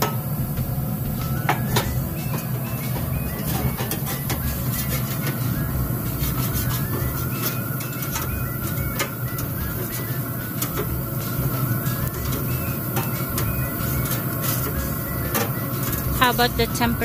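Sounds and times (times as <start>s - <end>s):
low mechanical hum: 0.0s - 17.0s
tongs scraping grill grates: 1.5s - 16.3s.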